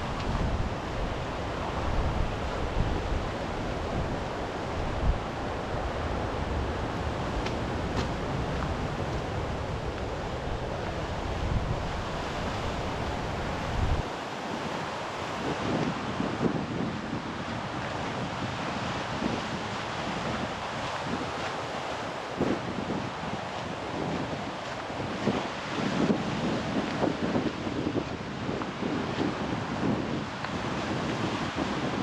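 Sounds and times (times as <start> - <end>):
sea surf washing on shore: 0.0 - 32.0
wind gusting on microphone: 0.0 - 32.0.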